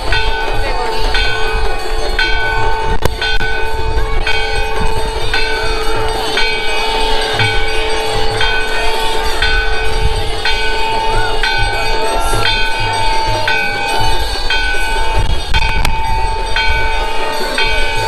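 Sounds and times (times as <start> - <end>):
low drumbeats: 0.0 - 18.0
temple bells ringing: 0.0 - 18.0.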